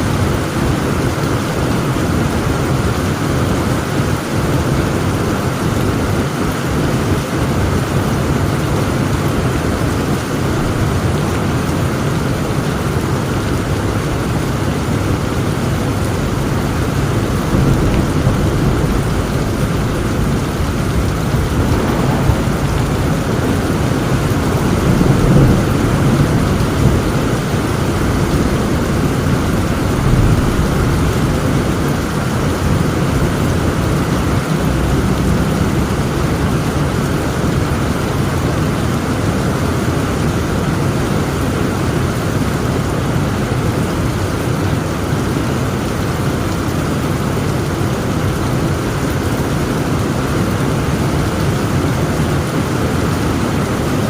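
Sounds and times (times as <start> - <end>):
low rolling thunder: 0.0 - 44.1
heavy rain falling: 0.0 - 54.0.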